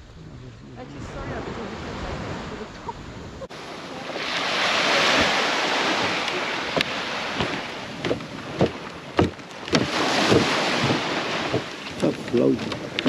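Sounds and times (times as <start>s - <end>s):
sea waves washing: 0.0s - 13.0s
wind on microphone: 0.0s - 13.0s.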